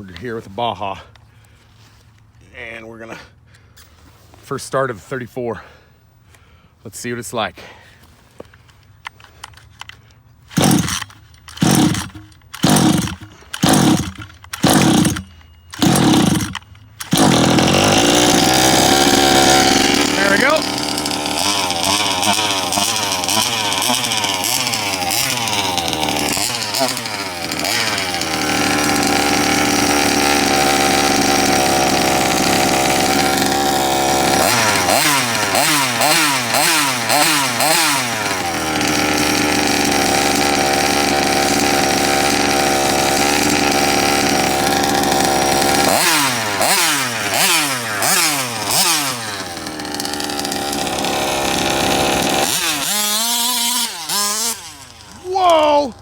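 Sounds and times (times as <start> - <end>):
two-stroke engine revving: 10.5 - 56.0.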